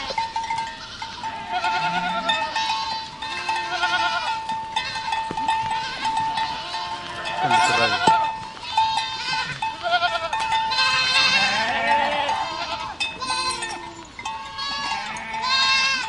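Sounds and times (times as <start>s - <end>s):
goats bleating: 0.0s - 16.0s.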